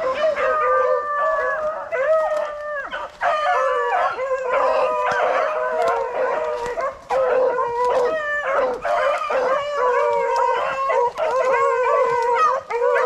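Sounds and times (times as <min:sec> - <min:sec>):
beagles baying: 0:00.0 - 0:13.0.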